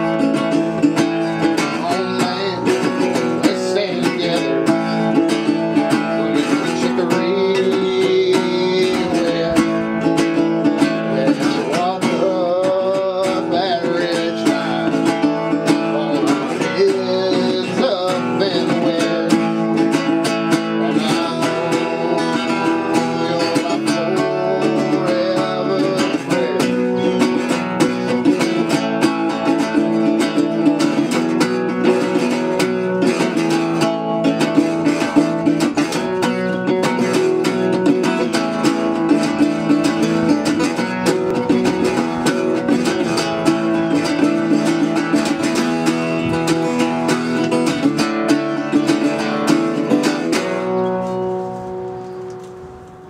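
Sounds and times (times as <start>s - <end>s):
resonator guitar picking folk tune: 0.0s - 53.0s.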